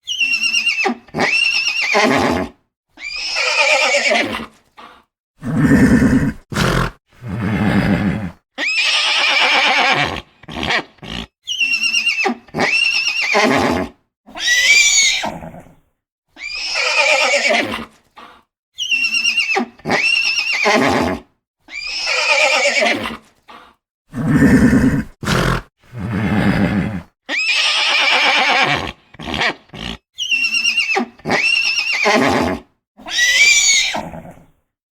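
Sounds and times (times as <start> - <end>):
horses neighing and whinnying: 0.0 - 4.6, 5.4 - 15.7, 16.4 - 18.0, 18.8 - 23.2, 24.2 - 34.4.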